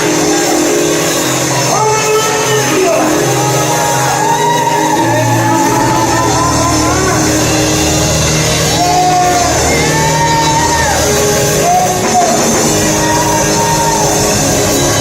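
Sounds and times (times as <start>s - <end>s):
band playing sustained chords: 0.0s - 15.0s.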